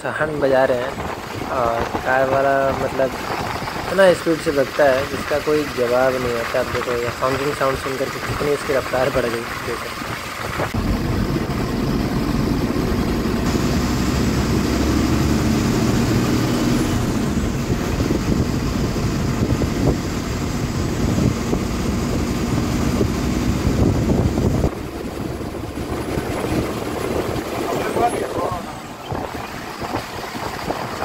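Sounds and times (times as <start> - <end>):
bus diesel engine rumble: 0.0 - 31.0
road noise: 0.0 - 31.0.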